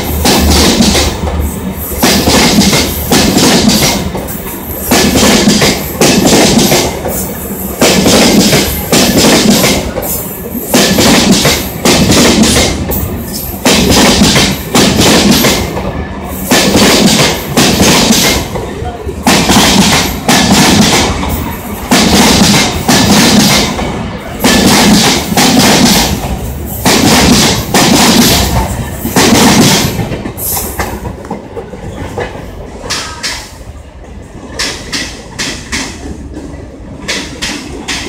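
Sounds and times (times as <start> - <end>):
train coaches rolling past: 0.0 - 38.0.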